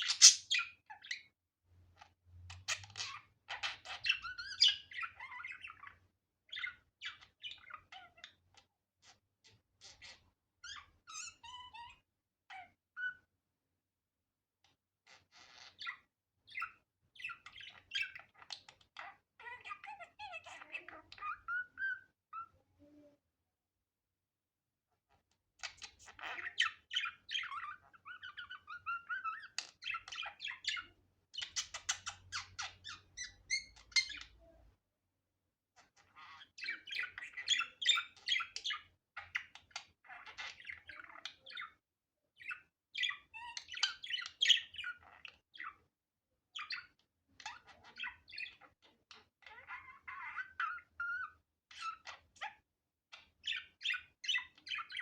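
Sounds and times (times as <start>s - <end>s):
budgerigar chirping and squawking: 0.0s - 1.3s, 2.0s - 13.2s, 15.1s - 22.5s, 25.6s - 34.5s, 35.8s - 45.8s, 46.5s - 55.0s.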